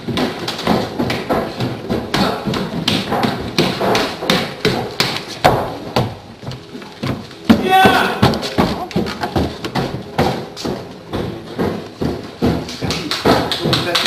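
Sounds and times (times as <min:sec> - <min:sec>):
footsteps on wooden stairs: 0:00.0 - 0:14.0.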